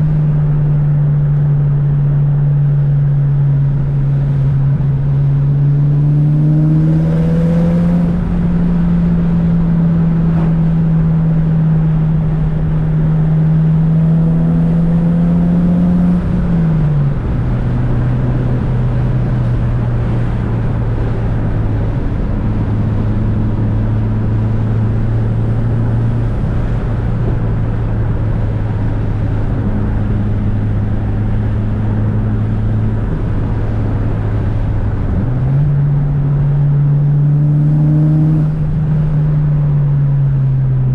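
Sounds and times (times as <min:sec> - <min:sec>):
car engine droning: 0:00.0 - 0:40.9.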